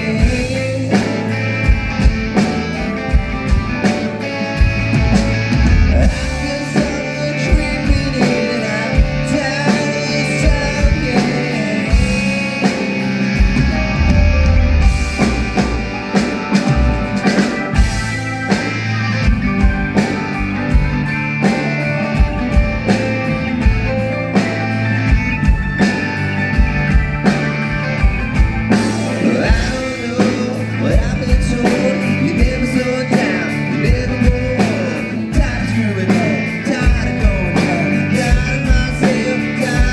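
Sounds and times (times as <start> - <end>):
bass: 0.0 - 39.9
drum kit: 0.0 - 39.9
electric guitar: 0.0 - 39.9.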